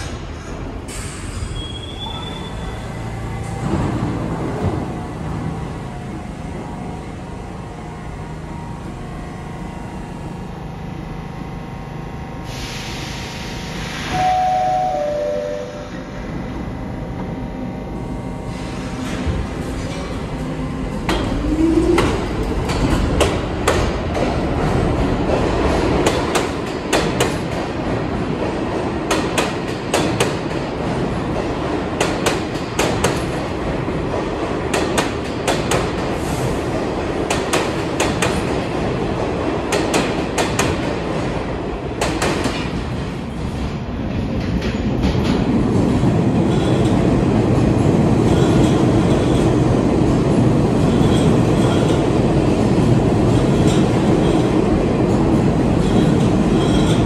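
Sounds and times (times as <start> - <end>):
subway wheels clicking over rail joints: 0.0 - 9.4, 18.6 - 57.0
train rumble: 0.0 - 57.0.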